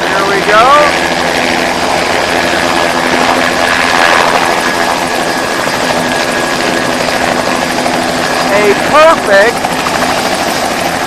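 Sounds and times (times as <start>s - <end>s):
helicopter rotor and turbine: 0.0s - 11.0s.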